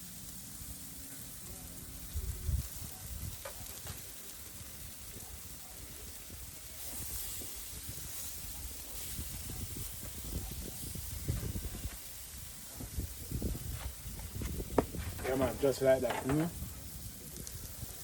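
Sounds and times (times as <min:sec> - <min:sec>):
chicken sizzling on a grill: 0:00.0 - 0:18.0.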